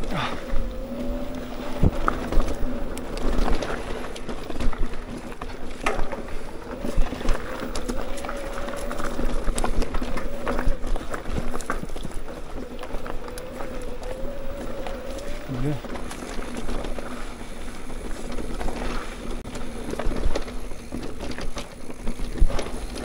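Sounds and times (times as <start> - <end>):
bike clicks and rattles: 0.0 - 23.0
bike tyres on dirt: 0.0 - 23.0.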